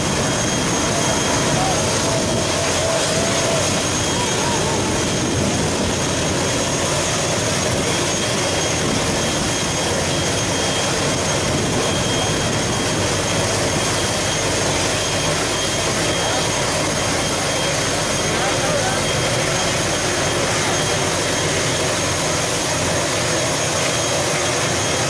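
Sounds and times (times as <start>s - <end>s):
thin high tone: 0.0s - 22.2s
crowd chatter: 0.0s - 25.0s
turboprop engine whine: 0.0s - 25.0s.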